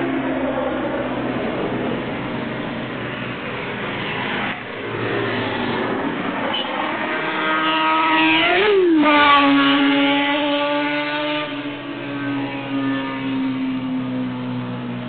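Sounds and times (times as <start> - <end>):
motorcycle exhaust revving high: 0.0 - 14.9.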